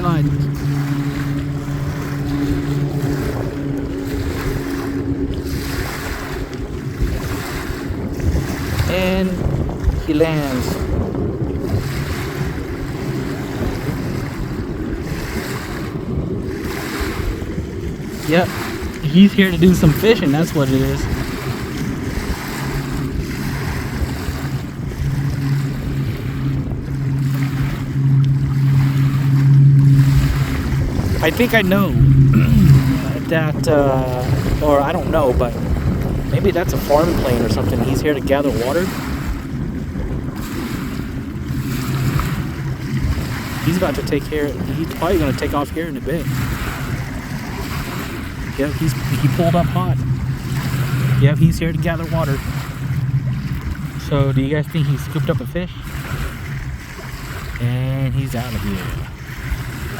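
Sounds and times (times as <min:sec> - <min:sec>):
propeller plane engine droning: 0:00.0 - 0:59.9
wind buffeting microphone: 0:00.0 - 0:59.9.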